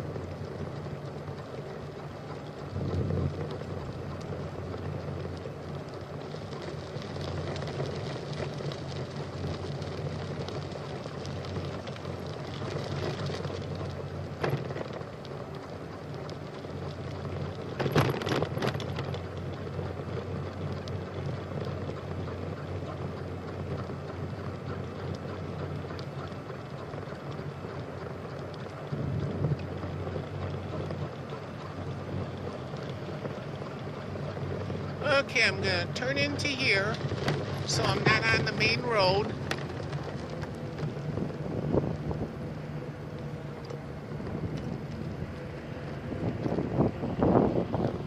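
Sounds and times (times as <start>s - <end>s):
bicycle riding noise: 0.0s - 48.0s
low steady hum: 0.0s - 48.0s.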